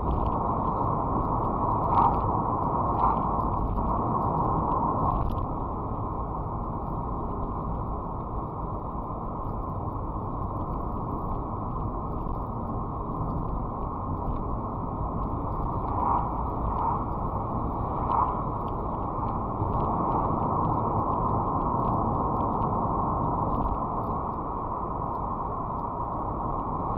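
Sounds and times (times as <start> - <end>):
car road and engine noise: 0.0 - 26.9.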